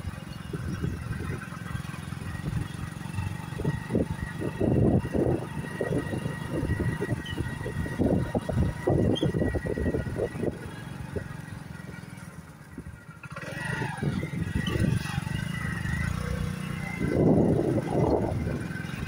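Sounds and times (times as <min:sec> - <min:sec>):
wind buffeting microphone: 0:00.4 - 0:13.1, 0:13.7 - 0:19.0.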